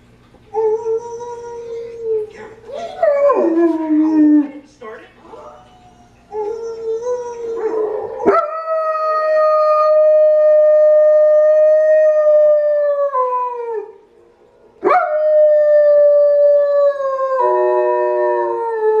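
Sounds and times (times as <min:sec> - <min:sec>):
dog howling: 0:00.5 - 0:04.6, 0:05.5 - 0:14.0, 0:14.8 - 0:19.0.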